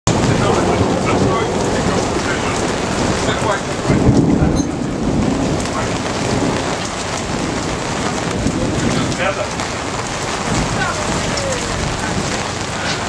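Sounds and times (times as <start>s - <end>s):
heavy rain pouring: 0.0s - 13.0s
roll of thunder: 0.1s - 13.0s.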